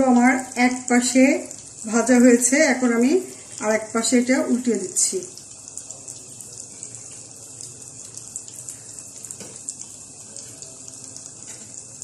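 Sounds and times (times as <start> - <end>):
cutlets sizzling in hot oil: 0.0 - 12.0.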